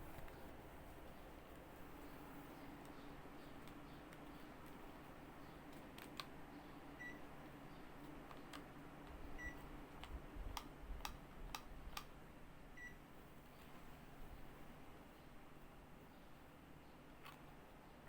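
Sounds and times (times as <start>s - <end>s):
air conditioner beeping: 0.0s - 14.7s
steady low hum: 0.0s - 18.0s.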